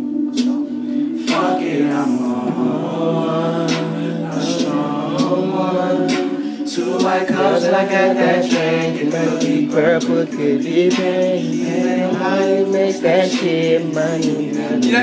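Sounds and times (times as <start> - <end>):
a cappella singing in harmony: 0.0 - 15.0.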